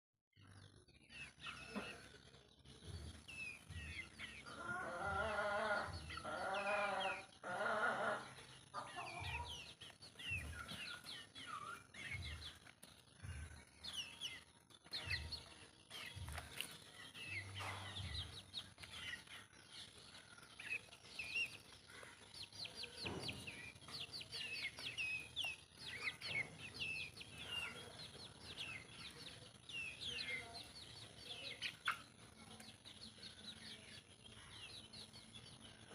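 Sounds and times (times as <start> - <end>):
chickens clucking: 1.0 - 35.9.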